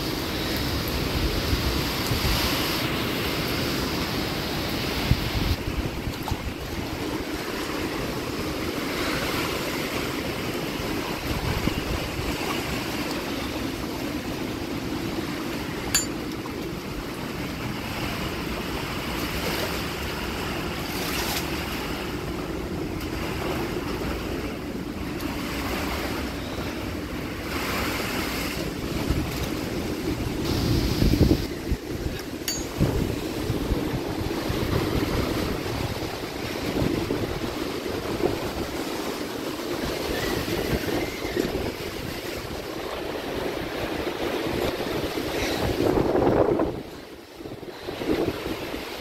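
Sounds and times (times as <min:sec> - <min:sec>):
strong wind buffeting microphone: 0:00.0 - 0:18.9, 0:22.1 - 0:49.0.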